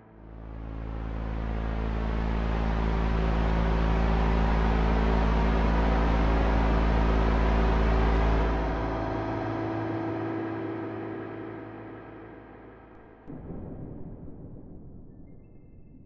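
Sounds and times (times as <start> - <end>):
ambient electronic music: 0.0 - 16.0.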